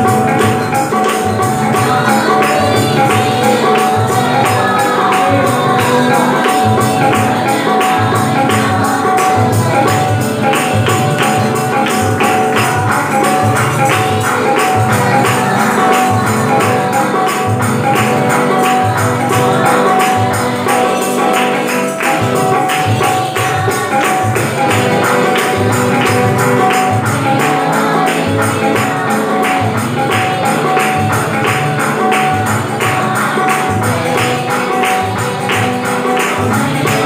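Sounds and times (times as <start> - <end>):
fast tambourine beat: 0.0 - 37.0
held notes: 0.0 - 37.0.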